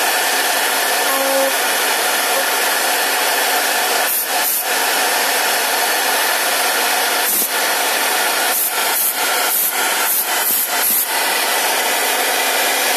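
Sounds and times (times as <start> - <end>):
router milling wood: 0.0 - 12.9
router spindle whine: 0.0 - 12.9.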